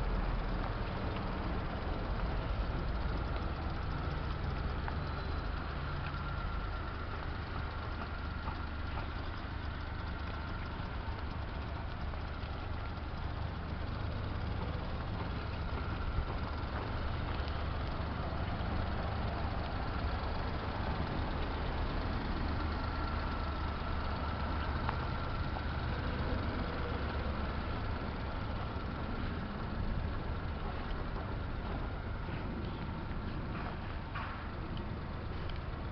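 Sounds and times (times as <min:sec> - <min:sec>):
small truck engine idling: 0:00.0 - 0:35.9.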